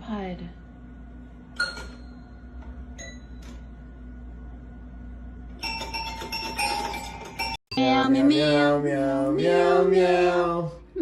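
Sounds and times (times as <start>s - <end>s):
low steady hum: 0.0s - 5.9s, 7.4s - 11.0s.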